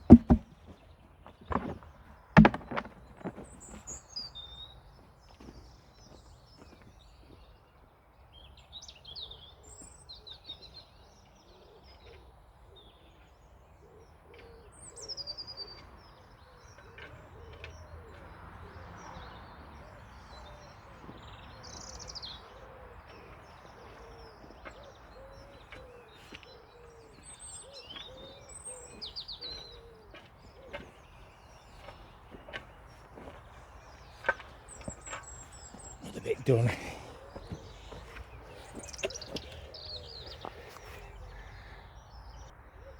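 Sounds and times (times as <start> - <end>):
wild birds chirping and singing: 0.0 - 42.9.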